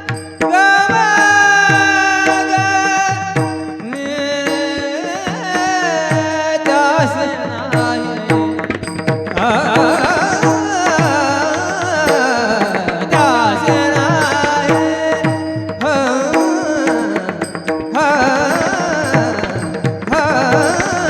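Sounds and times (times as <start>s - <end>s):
person singing ornamented phrases: 0.0s - 21.0s
tabla drumming: 0.0s - 21.0s.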